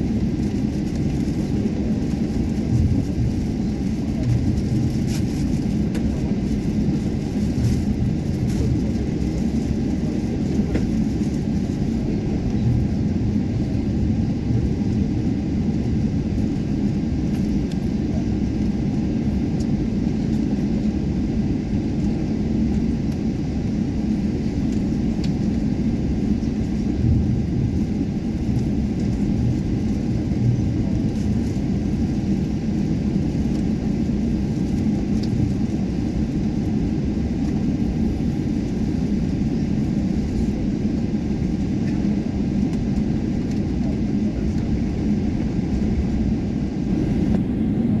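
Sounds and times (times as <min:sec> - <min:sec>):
aircraft cabin rumble: 0:00.0 - 0:48.0
faint steady engine hum: 0:00.0 - 0:48.0.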